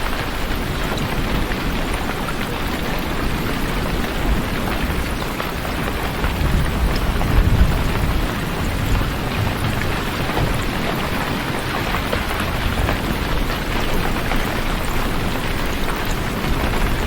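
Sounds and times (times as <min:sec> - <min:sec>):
heavy rain: 0:00.0 - 0:17.0
low rumble of thunder: 0:00.2 - 0:17.0.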